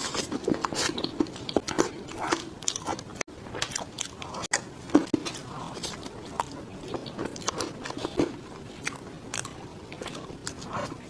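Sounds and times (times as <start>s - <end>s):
sticky chewing: 0.0s - 11.0s.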